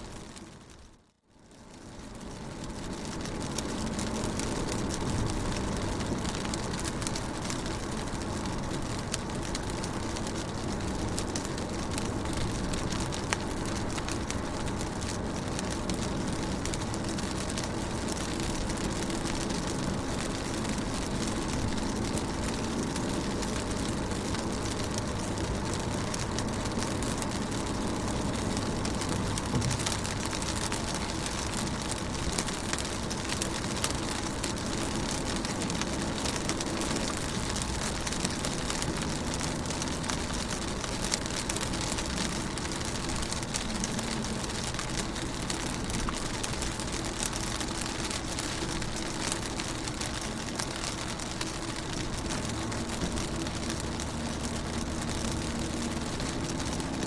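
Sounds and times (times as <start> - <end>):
constant low rumble: 0.0 - 57.0
rain drops tapping on glass: 1.6 - 57.0.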